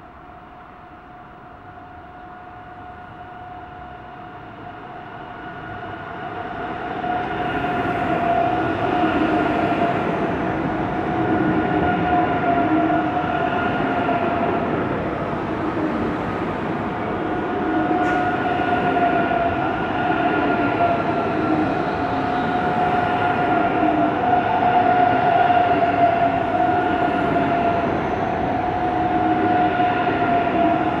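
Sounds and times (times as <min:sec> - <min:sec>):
high whine of train motors: 0:00.0 - 0:31.0.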